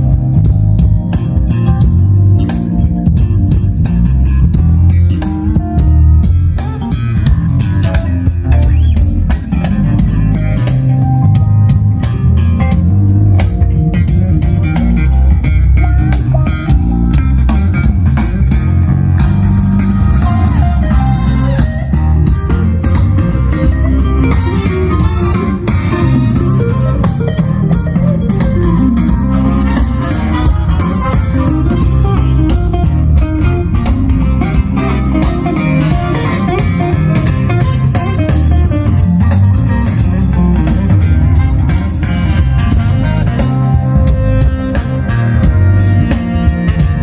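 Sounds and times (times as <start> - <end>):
rock music over loudspeakers: 0.0 - 47.0.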